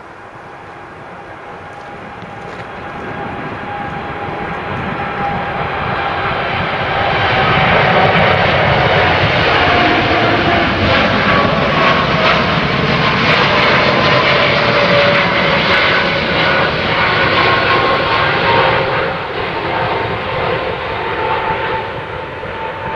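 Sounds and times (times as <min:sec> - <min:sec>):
jet engines roaring: 0:00.0 - 0:22.9.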